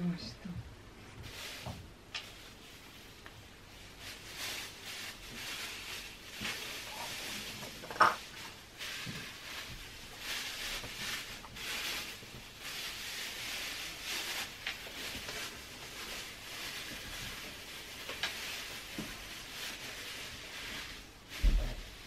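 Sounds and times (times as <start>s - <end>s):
plastic bags rustling and crinkling: 1.0s - 22.0s.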